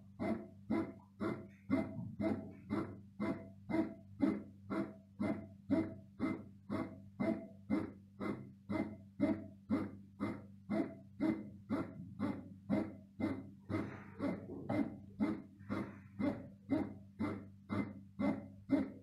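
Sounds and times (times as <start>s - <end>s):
bread maker motor hum: 0.0s - 19.0s.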